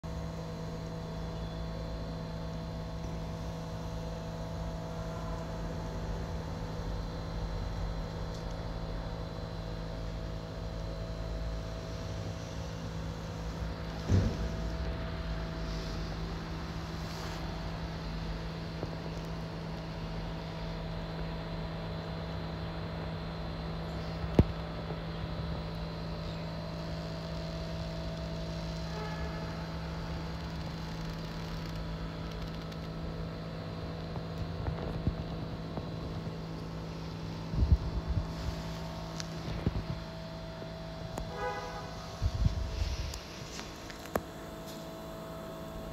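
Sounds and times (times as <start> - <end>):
machine-like hum: 0.0 - 45.9.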